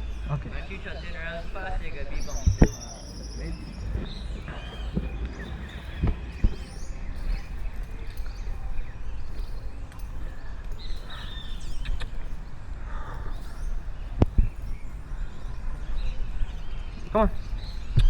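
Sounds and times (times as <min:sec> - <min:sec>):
birds chirping: 0:00.0 - 0:18.0
low wind rumble: 0:00.0 - 0:18.0
sharp thumps: 0:00.0 - 0:18.0.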